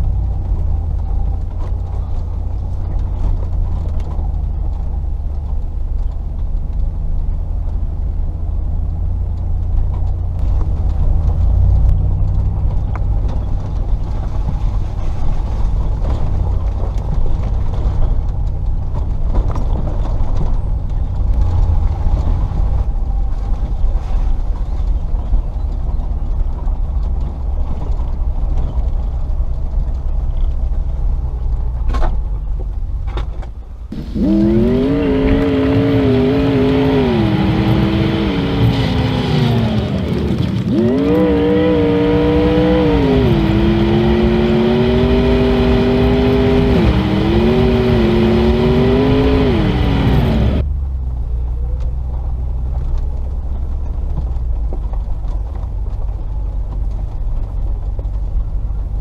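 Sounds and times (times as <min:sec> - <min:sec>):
engine deep rumble: 0:00.0 - 0:59.0.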